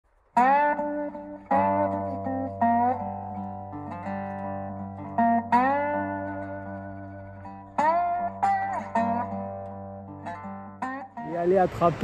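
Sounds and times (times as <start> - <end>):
plucked string instrument notes: 0.1 - 12.0.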